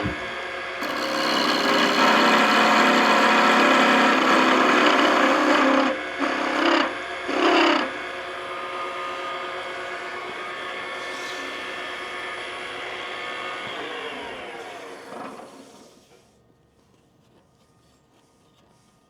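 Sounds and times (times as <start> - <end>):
lathe running hum: 0.0 - 16.2
lathe tool scraping wood: 0.8 - 16.2.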